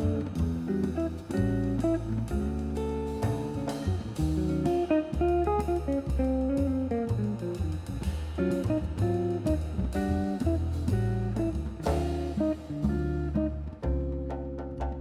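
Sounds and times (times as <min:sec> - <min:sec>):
guitar bass and drum music: 0:00.0 - 0:15.0.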